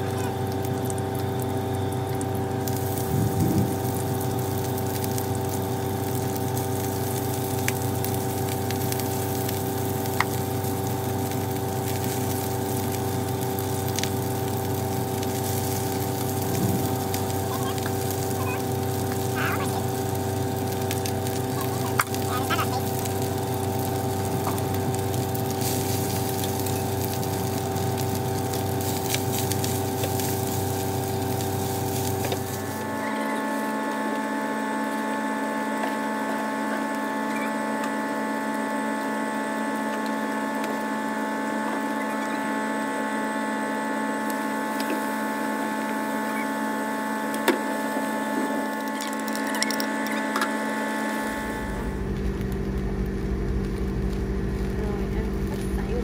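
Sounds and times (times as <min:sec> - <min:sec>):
motor humming: 0:00.0 - 0:56.0.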